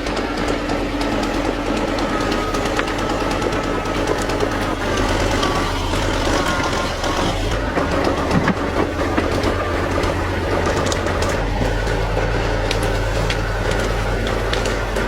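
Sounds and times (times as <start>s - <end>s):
old engine droning: 0.0s - 15.0s.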